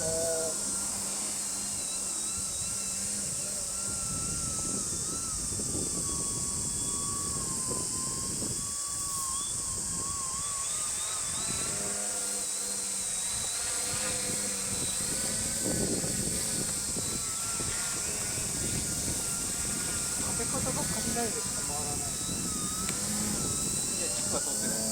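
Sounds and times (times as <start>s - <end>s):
electric motor and propeller whining: 0.0s - 24.9s
wind rumble on microphone: 0.0s - 24.9s.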